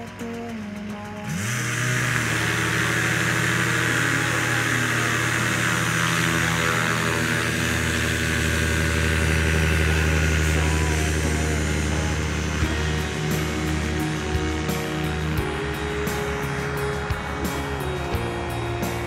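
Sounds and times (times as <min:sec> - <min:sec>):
engine and propeller running: 0:00.0 - 0:19.0.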